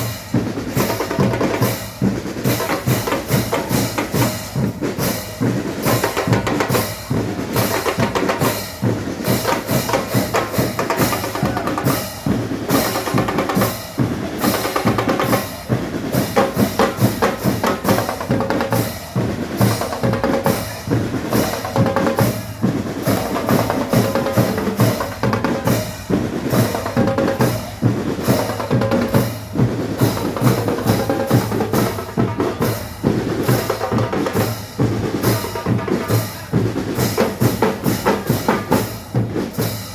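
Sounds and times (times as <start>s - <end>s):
band playing music: 0.0s - 39.9s
bass drum and snare beat: 0.0s - 39.9s.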